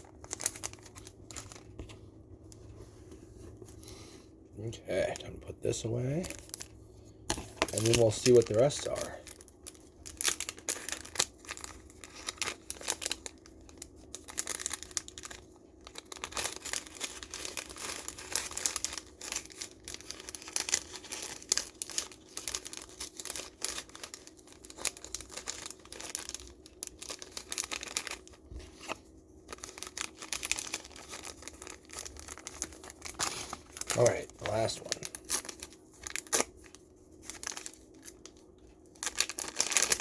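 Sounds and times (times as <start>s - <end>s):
packaging crinkling and rustling: 0.0s - 2.8s, 5.0s - 40.0s
packaging tearing: 7.4s - 40.0s.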